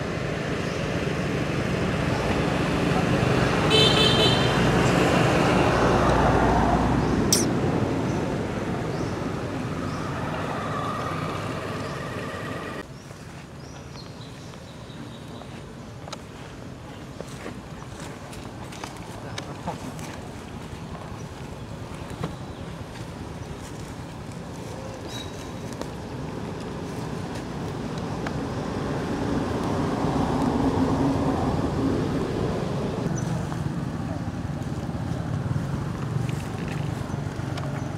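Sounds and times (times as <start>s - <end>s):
rumbling outdoor background noise: 0.0s - 37.9s.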